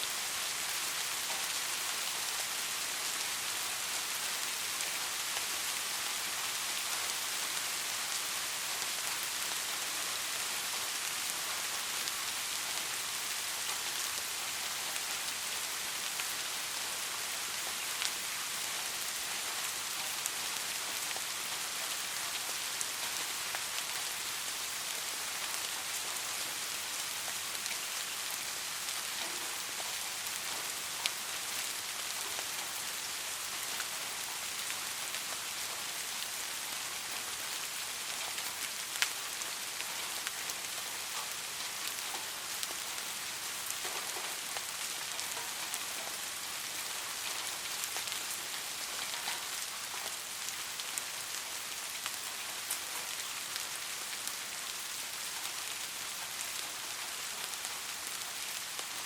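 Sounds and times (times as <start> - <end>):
soft rain falling: 0.0 - 59.0.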